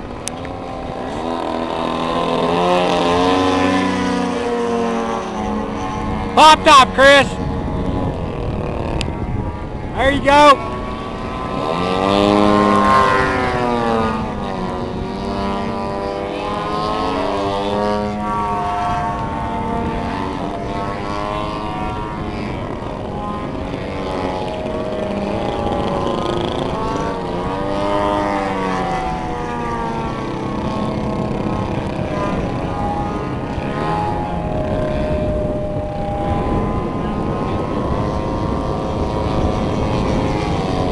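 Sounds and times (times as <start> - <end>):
model airplane engine in flight: 0.0 - 40.9.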